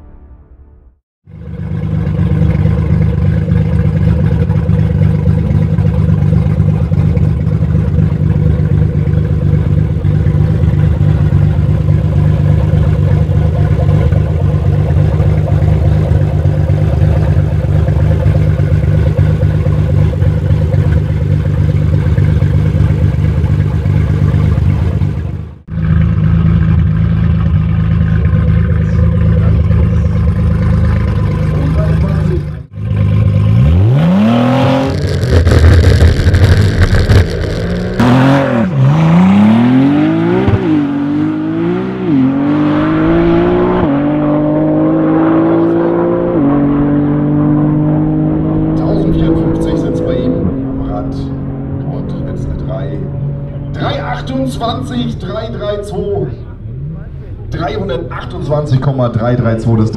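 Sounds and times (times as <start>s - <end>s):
car engine idling: 1.2s - 59.9s.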